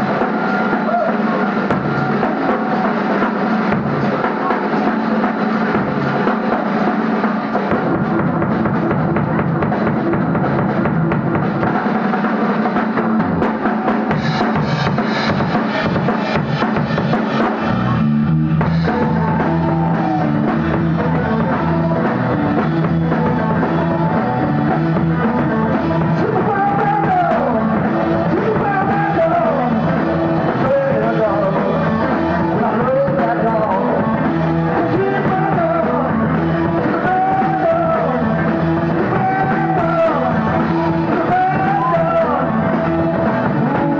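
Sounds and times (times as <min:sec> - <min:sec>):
drums: 0:00.0 - 0:43.9
guitar: 0:00.0 - 0:43.9
steady bass line: 0:00.0 - 0:43.9.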